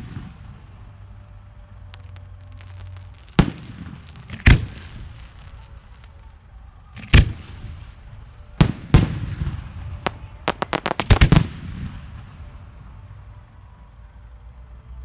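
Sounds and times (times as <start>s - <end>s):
fireworks bangs: 0.0s - 1.2s, 1.8s - 13.4s
rumbling echo: 0.0s - 13.9s.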